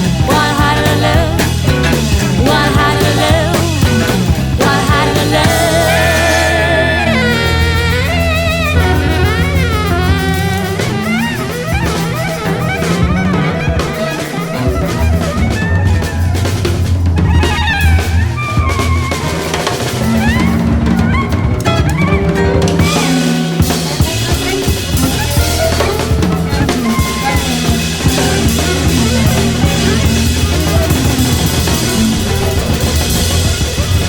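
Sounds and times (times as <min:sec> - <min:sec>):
drum kit and bass: 0:00.0 - 0:34.0
wavering melodic lead line: 0:00.0 - 0:34.0.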